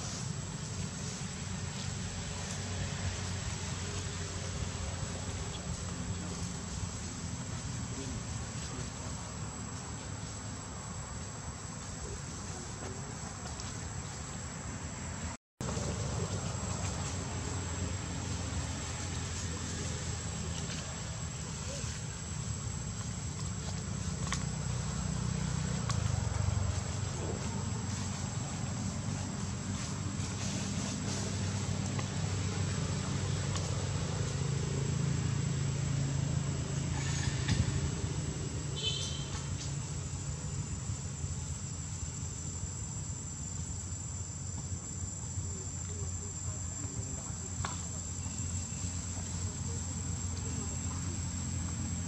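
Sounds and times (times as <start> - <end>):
insects droning: 0.0 - 52.0.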